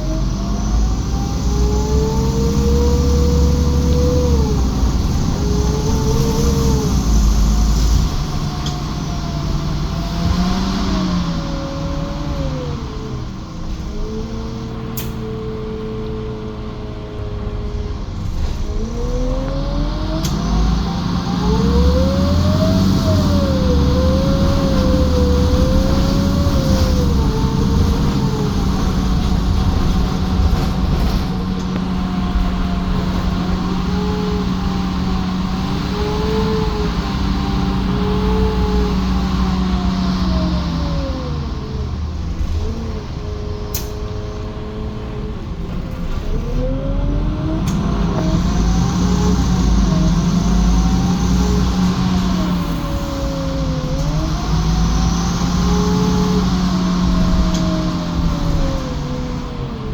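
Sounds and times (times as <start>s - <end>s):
bus engine accelerating: 0.0s - 59.9s
engine whine: 0.0s - 59.9s.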